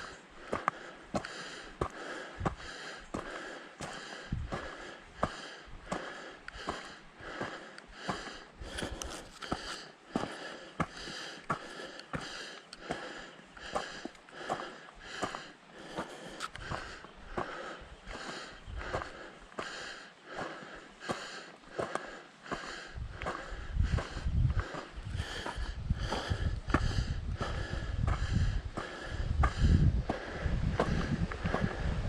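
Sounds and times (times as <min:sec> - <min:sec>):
footsteps on a trail: 0:00.0 - 0:32.0
person breathing: 0:00.0 - 0:32.0.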